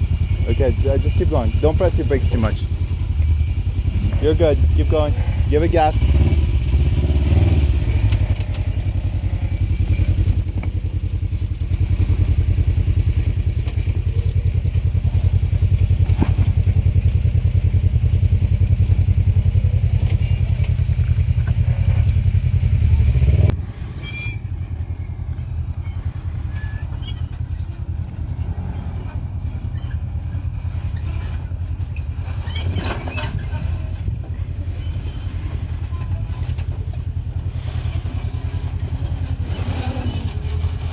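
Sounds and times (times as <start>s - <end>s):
engine running at low speed: 0.0s - 40.9s.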